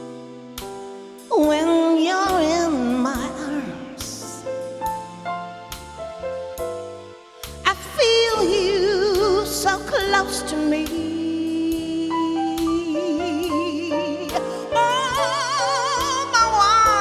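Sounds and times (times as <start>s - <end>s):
lead melody with wide vibrato: 0.0s - 17.0s
struck notes: 0.0s - 17.0s.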